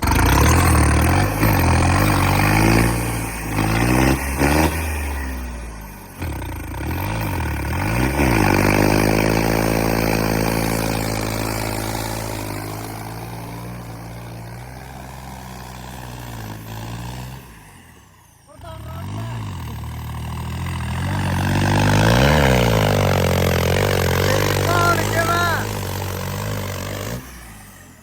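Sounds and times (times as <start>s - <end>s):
tractor engine revving: 0.0s - 28.0s.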